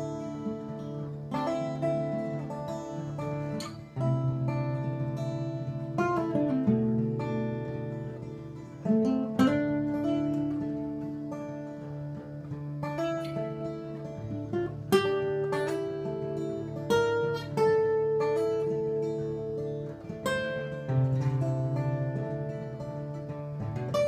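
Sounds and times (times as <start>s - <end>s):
acoustic guitars strumming: 0.0s - 24.0s.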